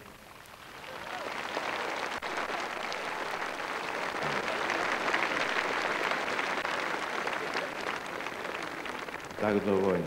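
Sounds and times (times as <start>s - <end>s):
large crowd applauding: 0.0s - 10.0s.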